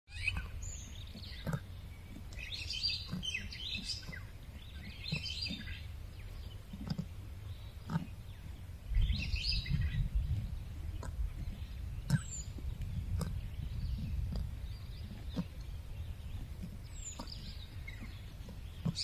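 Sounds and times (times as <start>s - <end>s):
birds chirping: 0.1s - 19.0s
steady low rumble: 0.2s - 19.0s.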